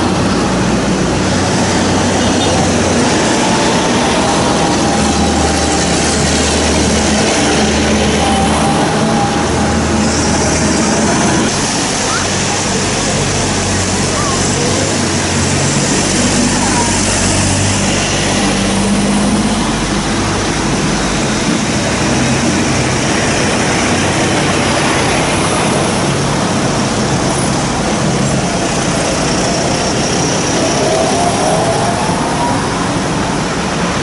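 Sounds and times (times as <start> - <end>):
tractor diesel engines passing: 0.0 - 34.0
tyres hissing on wet road: 0.0 - 34.0.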